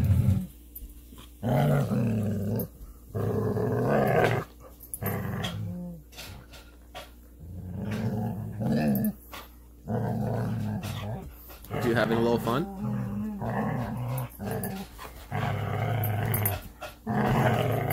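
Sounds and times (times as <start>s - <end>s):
dogs growling in play: 0.0s - 0.6s, 1.3s - 17.9s.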